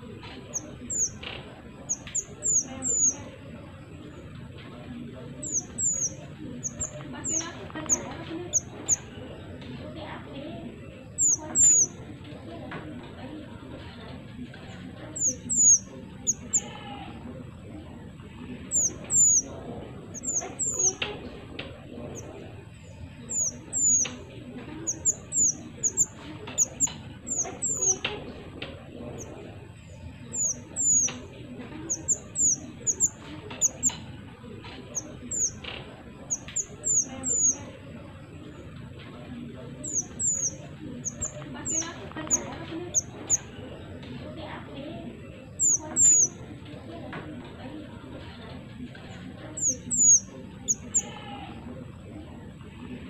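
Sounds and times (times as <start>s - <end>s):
low background noise: 0.0s - 53.0s
songbird chirping: 0.0s - 53.0s.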